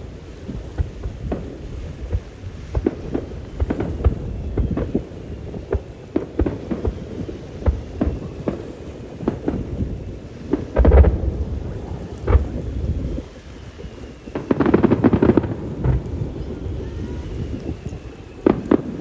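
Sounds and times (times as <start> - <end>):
fireworks booming and cracking: 0.0 - 19.0.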